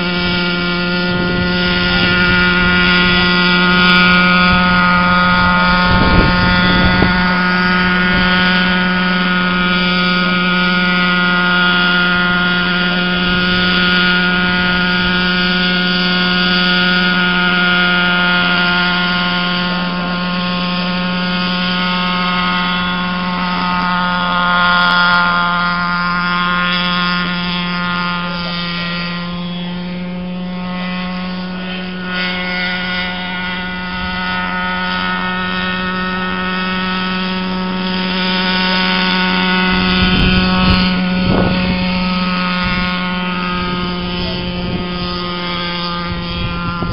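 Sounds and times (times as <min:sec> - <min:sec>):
low hum: 0:00.0 - 0:46.9
model helicopter whine: 0:00.0 - 0:46.9.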